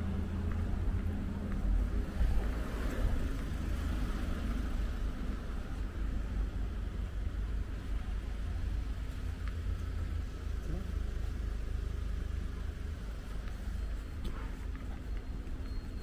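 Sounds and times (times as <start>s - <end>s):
low street ambience rumble: 0.0s - 16.0s.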